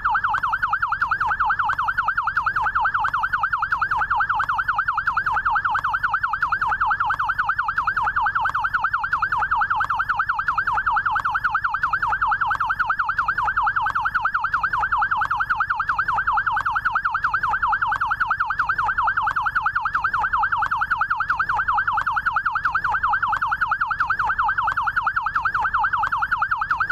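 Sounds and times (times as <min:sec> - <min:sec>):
electronic siren yelping: 0:00.0 - 0:26.9.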